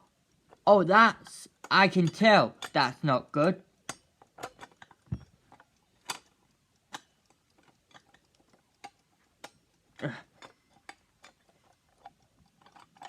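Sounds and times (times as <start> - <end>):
plastic clock parts clicking: 0.0 - 13.0.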